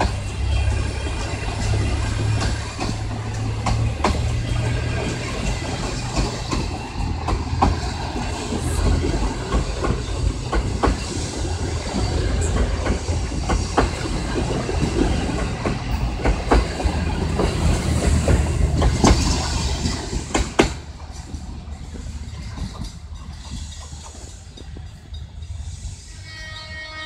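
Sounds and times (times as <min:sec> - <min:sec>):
wheels clacking over rail joints: 0:00.0 - 0:26.0
wheels rumbling on rail: 0:00.0 - 0:27.0.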